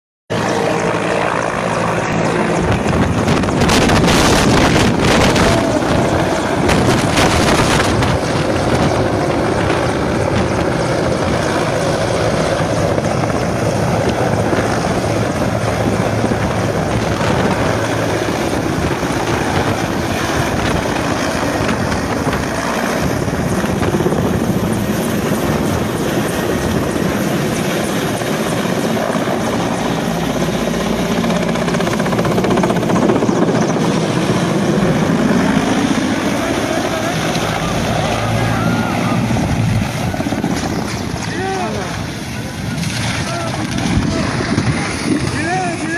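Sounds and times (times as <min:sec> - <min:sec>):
helicopter rotor beating: 0:00.3 - 0:45.9.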